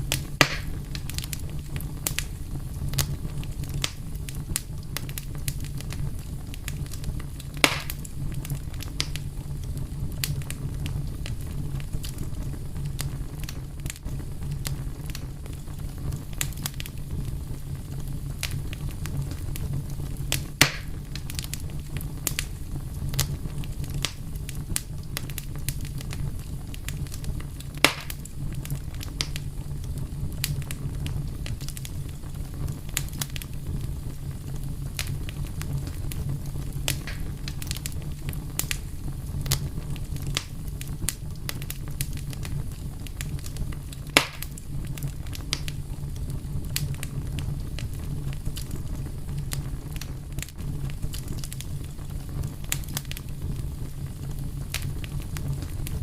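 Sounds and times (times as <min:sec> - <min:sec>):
fire pops: 0:00.0 - 0:56.0
wood fire crackling: 0:00.0 - 0:56.0.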